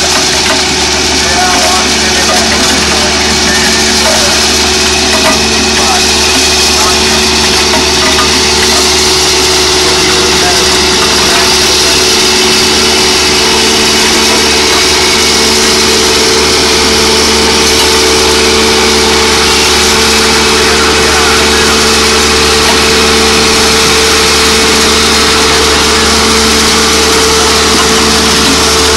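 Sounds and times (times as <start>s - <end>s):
machine engine running: 0.0s - 28.9s.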